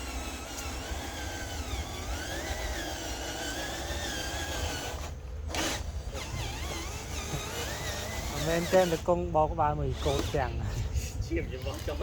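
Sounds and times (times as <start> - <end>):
small electric motor whining: 0.0 - 9.2, 9.8 - 12.0.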